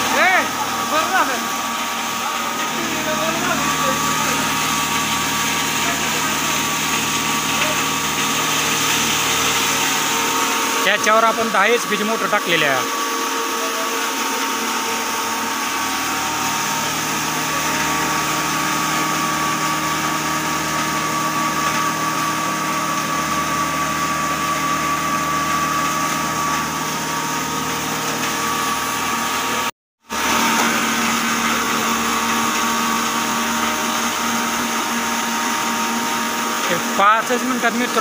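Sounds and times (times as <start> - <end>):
grinding mill running: 0.0 - 38.0.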